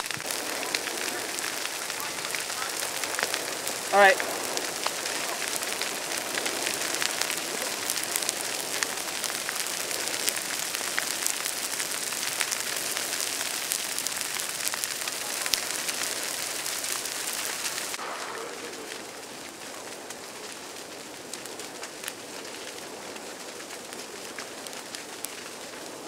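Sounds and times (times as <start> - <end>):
fire crackles and pops: 0.0 - 26.0
hiss of flames: 0.0 - 26.0.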